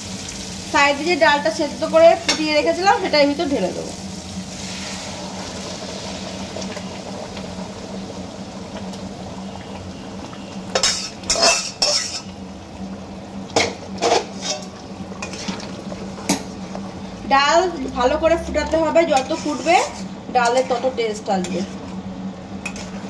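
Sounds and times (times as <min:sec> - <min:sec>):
frying sizzle: 0:00.0 - 0:23.0.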